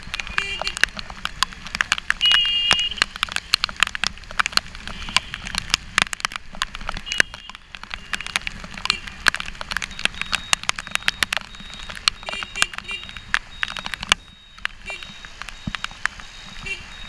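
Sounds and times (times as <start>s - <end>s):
raindrops ticking on camera housing: 0.0s - 17.0s.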